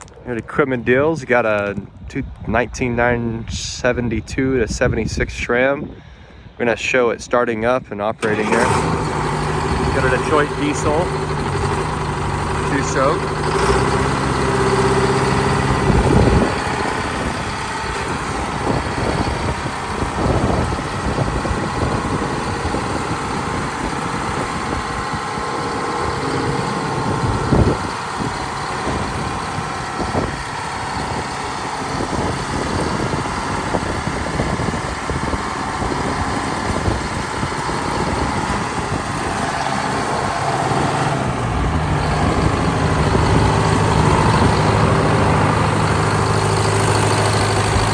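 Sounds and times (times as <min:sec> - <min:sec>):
diesel engine running: 0:08.1 - 0:47.9
engine knocks: 0:08.2 - 0:47.9.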